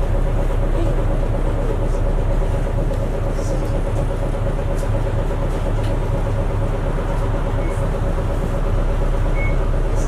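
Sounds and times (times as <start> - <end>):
bus diesel engine rumble: 0.0 - 10.0.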